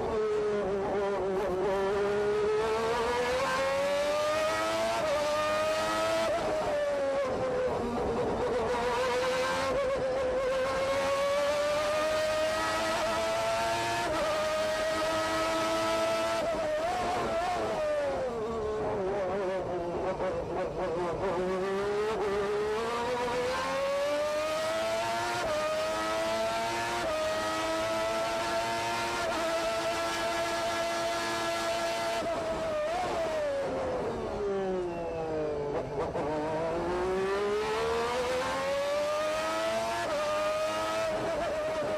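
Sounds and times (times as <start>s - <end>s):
racing car engine accelerating: 0.0s - 41.9s.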